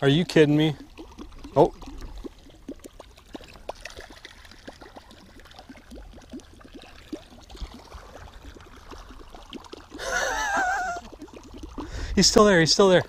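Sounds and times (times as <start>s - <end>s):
water splashing and gurgling: 0.0s - 13.0s.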